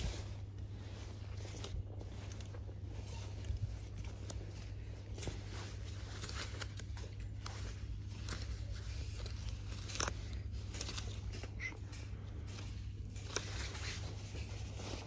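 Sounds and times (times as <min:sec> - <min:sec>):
coat fabric rustling: 0:00.0 - 0:11.6, 0:12.2 - 0:15.0
steady low hum: 0:00.0 - 0:15.0.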